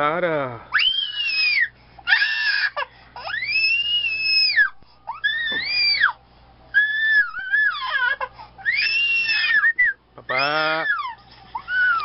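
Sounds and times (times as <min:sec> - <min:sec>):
baby crying: 0:00.8 - 0:06.2, 0:06.8 - 0:12.0.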